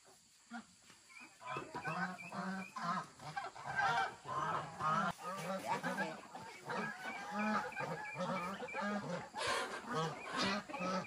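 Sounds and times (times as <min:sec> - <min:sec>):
geese honking: 0:00.5 - 0:11.0.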